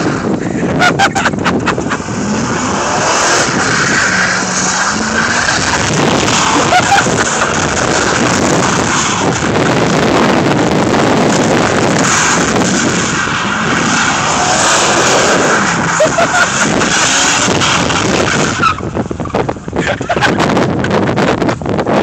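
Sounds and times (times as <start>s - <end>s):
pickup truck engine working hard: 0.0s - 22.0s
tyres spinning on snow: 0.0s - 22.0s
wind buffeting microphone: 0.0s - 22.0s.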